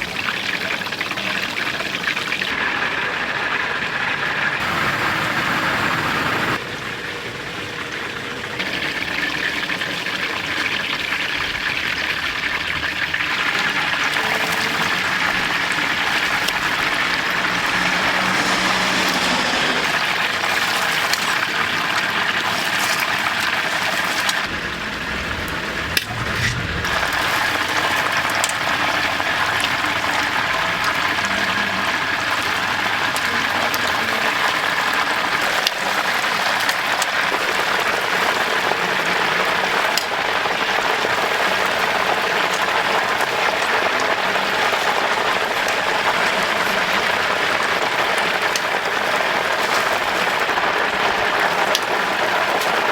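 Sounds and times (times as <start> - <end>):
chicken sizzling in hot oil: 0.0 - 52.9.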